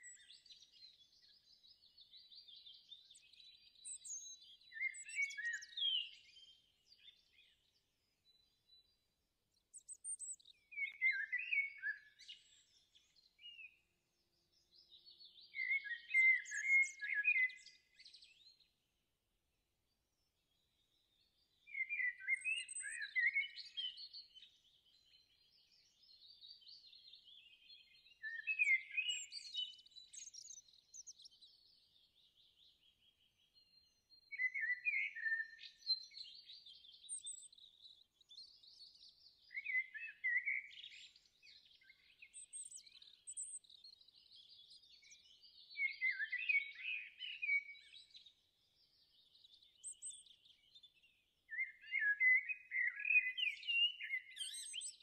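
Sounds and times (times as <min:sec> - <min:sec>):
soft bird twittering: 0:00.0 - 0:18.8, 0:20.3 - 0:55.0
songbirds chirping and trilling: 0:00.0 - 0:55.0.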